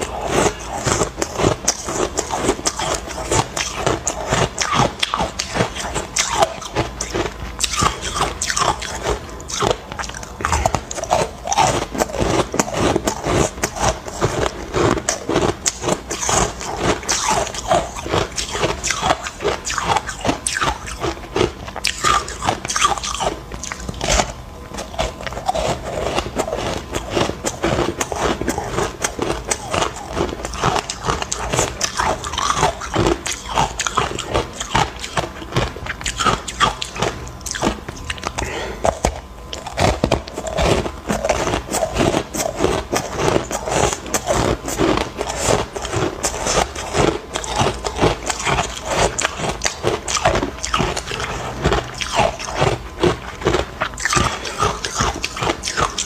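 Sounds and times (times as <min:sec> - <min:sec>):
crunching ice between teeth: 0:00.0 - 0:56.0.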